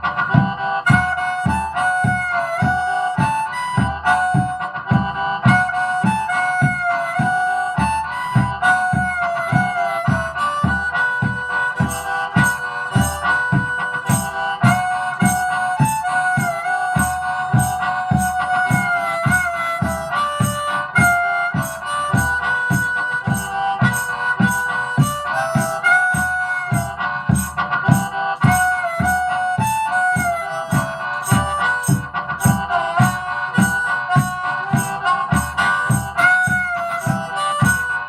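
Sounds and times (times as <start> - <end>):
harmonica playing: 0.0 - 38.0
percussive beat: 0.0 - 38.0.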